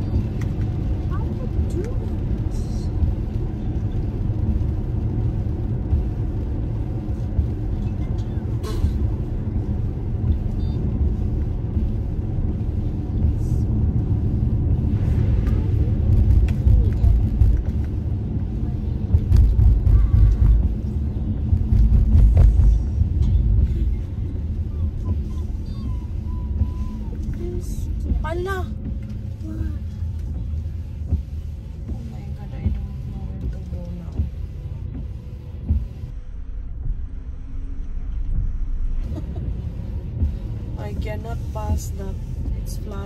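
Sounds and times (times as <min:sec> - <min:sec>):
car driving rumble: 0:00.0 - 0:43.0
soft low thumps: 0:00.0 - 0:43.0.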